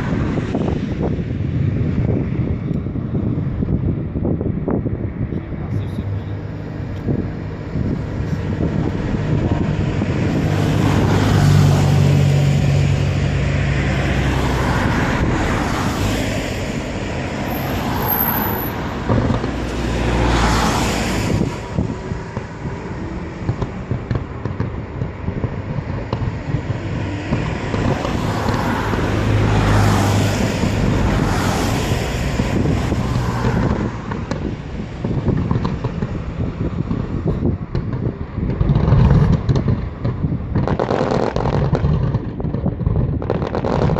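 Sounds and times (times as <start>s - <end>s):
fireworks booming and crackling: 0.0s - 43.9s
wind rumbling on microphone: 0.0s - 43.9s.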